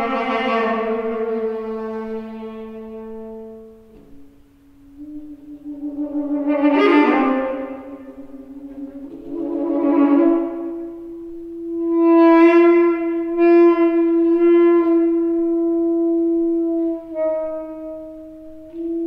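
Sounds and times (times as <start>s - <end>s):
saxophone long held notes: 0.0s - 19.0s.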